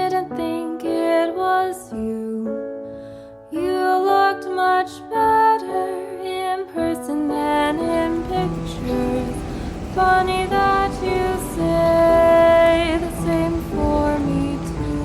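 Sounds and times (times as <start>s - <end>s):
soft keyboard instrumental music: 0.0s - 15.0s.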